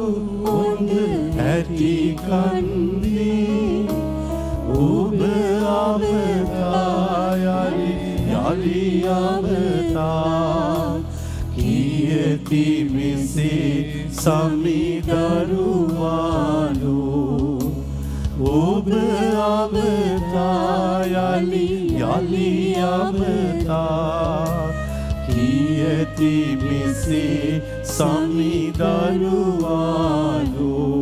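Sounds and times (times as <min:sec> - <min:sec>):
person singing a hymn: 0:00.0 - 0:31.0
sustained instrumental accompaniment: 0:00.0 - 0:31.0.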